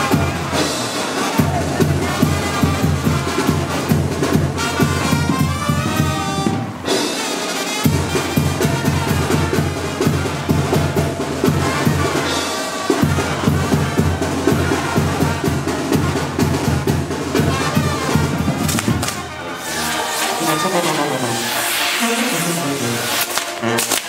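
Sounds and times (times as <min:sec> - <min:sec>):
band music with drum beat: 0:00.0 - 0:24.0.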